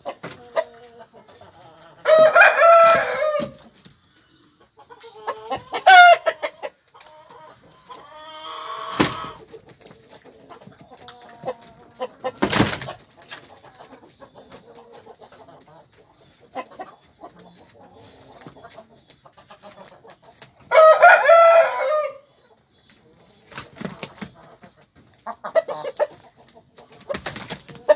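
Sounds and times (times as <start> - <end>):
chickens clucking and calling: 0.0 - 27.9.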